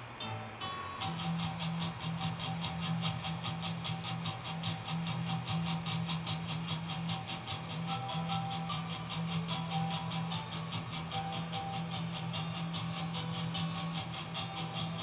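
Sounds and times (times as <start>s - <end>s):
fast high ticking rhythm: 0.0s - 15.0s
low steady hum: 0.0s - 15.0s.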